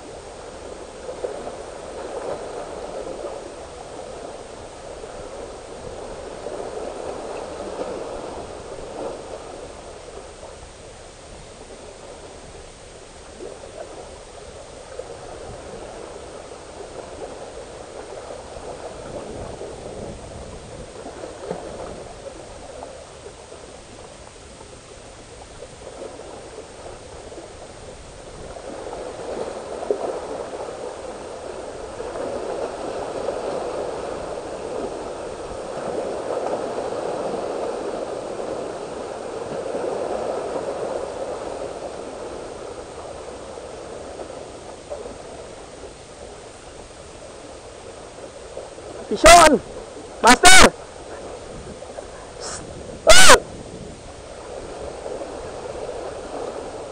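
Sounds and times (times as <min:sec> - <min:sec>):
sea waves splashing against rocks: 0:00.0 - 0:10.6, 0:11.3 - 0:24.8, 0:25.4 - 0:56.9.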